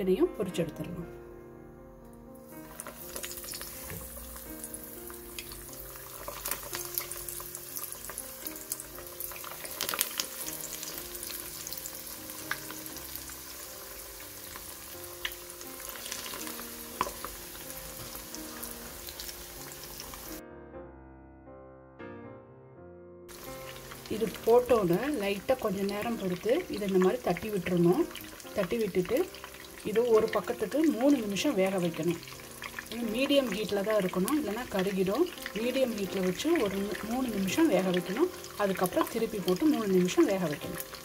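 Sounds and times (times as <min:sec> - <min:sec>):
soft background music: 0:00.0 - 0:41.0
chicken frying in hot oil: 0:02.5 - 0:20.4, 0:23.3 - 0:41.0.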